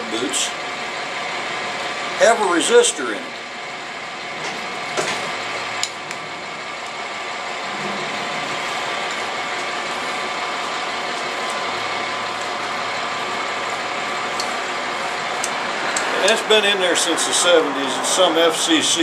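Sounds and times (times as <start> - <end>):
machinery whirring: 0.0 - 19.0.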